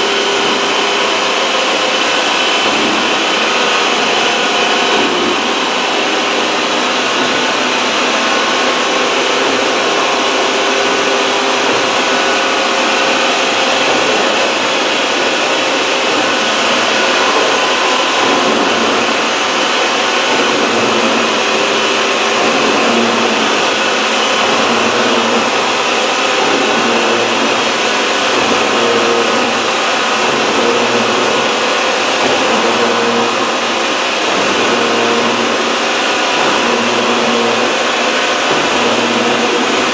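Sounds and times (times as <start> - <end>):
milling machine cutting metal: 0.0 - 39.9.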